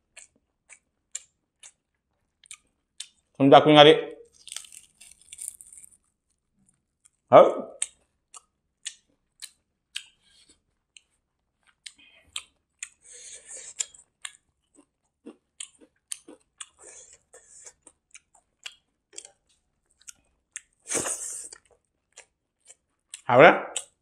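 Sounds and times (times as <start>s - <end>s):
person chewing food: 0.0s - 3.3s, 4.3s - 24.0s.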